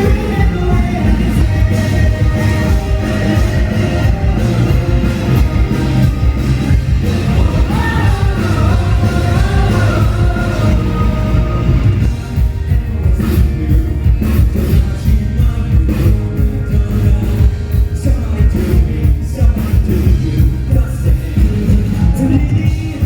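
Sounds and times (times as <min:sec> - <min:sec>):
live pop-rock band playing: 0:00.0 - 0:23.0.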